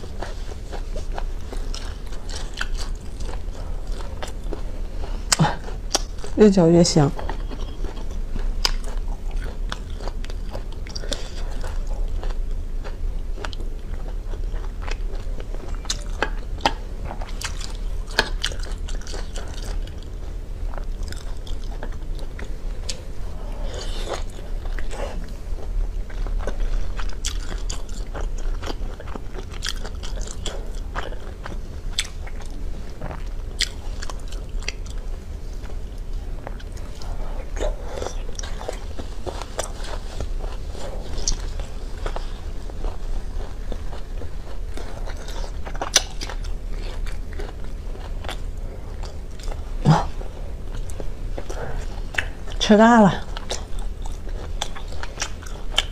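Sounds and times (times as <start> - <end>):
close-miked chewing and biting: 0.0 - 55.9
steady low hum: 0.0 - 55.9.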